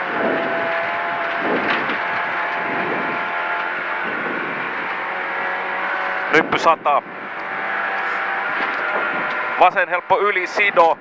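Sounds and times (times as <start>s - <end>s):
car engine running from inside cabin: 0.0s - 11.0s.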